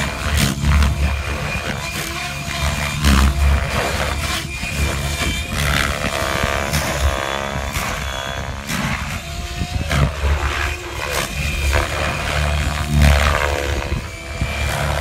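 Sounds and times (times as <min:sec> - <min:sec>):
rc helicopter rotor whining: 0:00.0 - 0:15.0.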